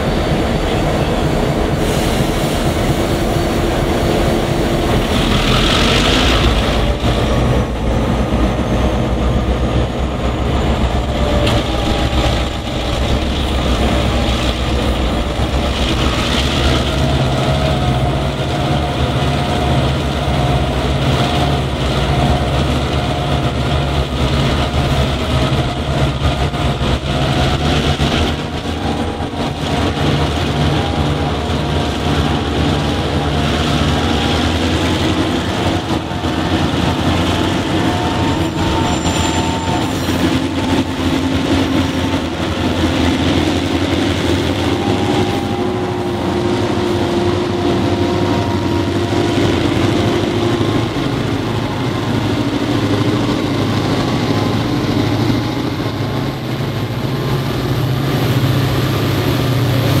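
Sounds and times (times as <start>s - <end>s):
diesel locomotives working hard: 0.0s - 60.0s.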